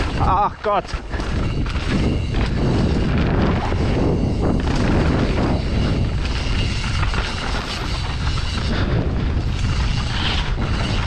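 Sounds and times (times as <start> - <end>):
bike rattling over rough ground: 0.0 - 11.0
rushing wind: 0.0 - 11.0
tyre noise on dirt: 0.0 - 11.0.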